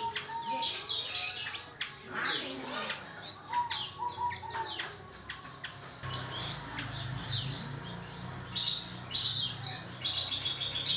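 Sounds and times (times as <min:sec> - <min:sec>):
bird singing: 0:00.0 - 0:10.9.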